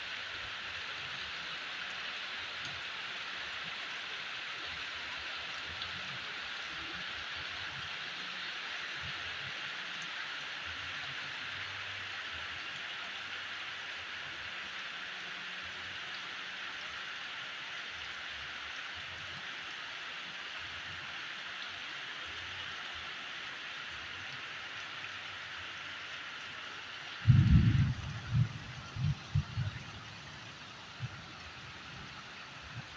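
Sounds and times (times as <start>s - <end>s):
heavy rain: 0.0s - 32.9s.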